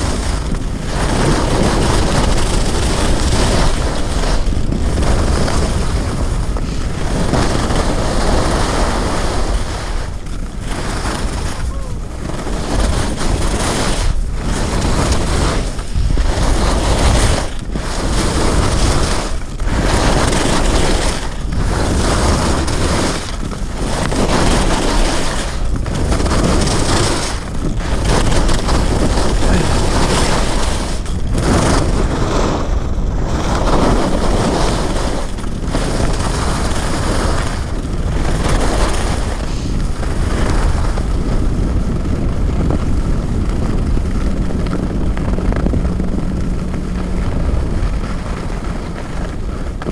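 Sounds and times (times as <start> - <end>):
ski edges scraping snow: 0.0 - 49.9
wind rumble on microphone: 0.0 - 49.9.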